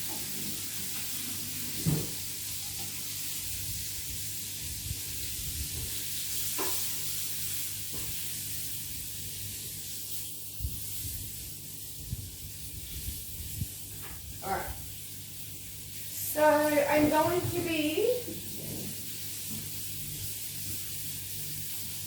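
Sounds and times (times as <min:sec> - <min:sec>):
chicken sizzling in frying pan: 0:00.0 - 0:22.0.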